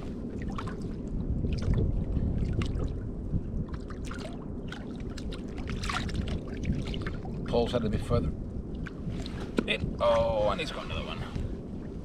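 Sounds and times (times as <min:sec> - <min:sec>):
water lapping against kayak hull: 0:00.0 - 0:12.0
wind rumbling on microphone: 0:00.0 - 0:12.0.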